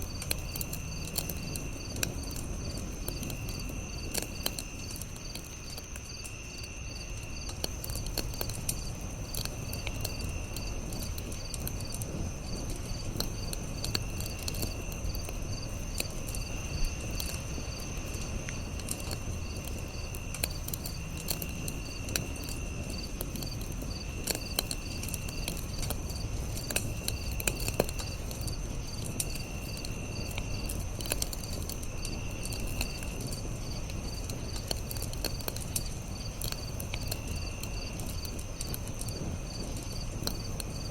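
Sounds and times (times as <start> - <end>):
campfire crackling and popping: 0.0 - 40.9
high insect trills: 0.0 - 40.9
insects chirping: 0.0 - 40.9.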